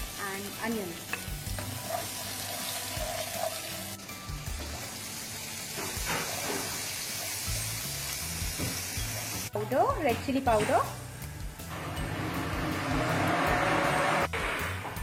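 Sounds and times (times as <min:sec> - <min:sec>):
onions sizzling in hot oil: 0:00.0 - 0:12.6.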